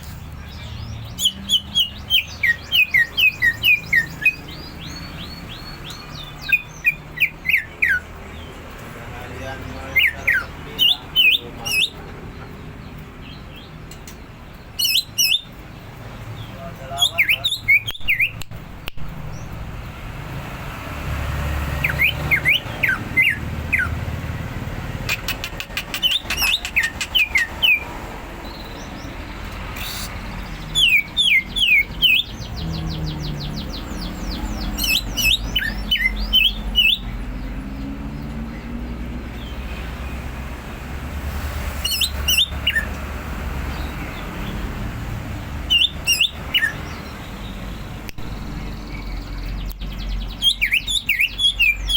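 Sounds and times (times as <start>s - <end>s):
bird chirping: 0.0s - 51.9s.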